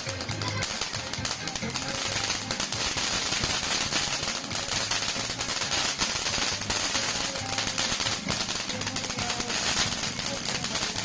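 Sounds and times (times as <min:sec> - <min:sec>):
firework crackling pops: 0:00.0 - 0:11.0
firework fountain hissing: 0:00.0 - 0:11.0.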